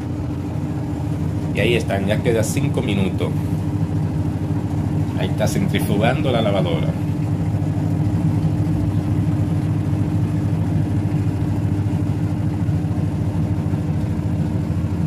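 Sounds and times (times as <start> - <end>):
washing machine spin cycle hum: 0.0 - 15.0.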